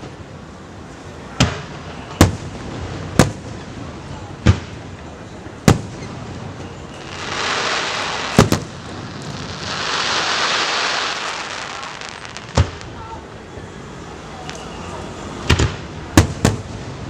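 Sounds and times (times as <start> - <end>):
hissing crackling firework sprays: 0.0 - 17.0
fireworks shells booming: 1.3 - 13.1, 14.3 - 17.0.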